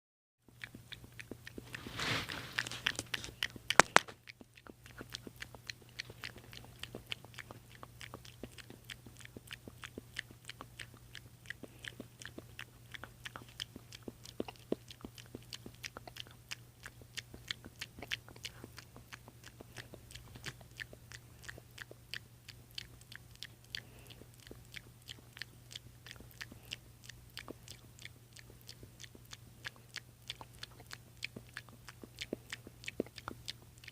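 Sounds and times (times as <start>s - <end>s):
low steady hum: 0.4s - 33.9s.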